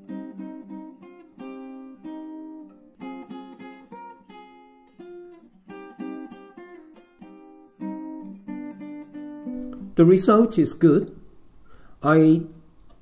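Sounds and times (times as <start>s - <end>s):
acoustic guitar music: 0.0s - 11.1s.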